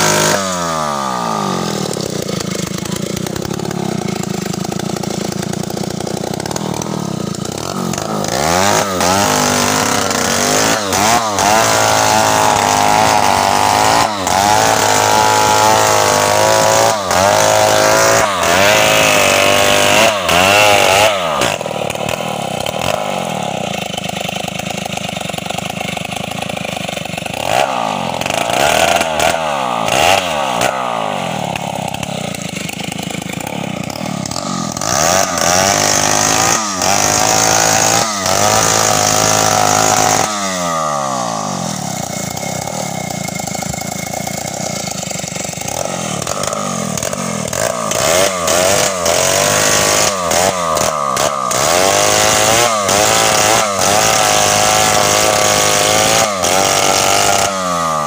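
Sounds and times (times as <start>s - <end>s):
chainsaw cutting tree trunk: 0.0s - 58.0s.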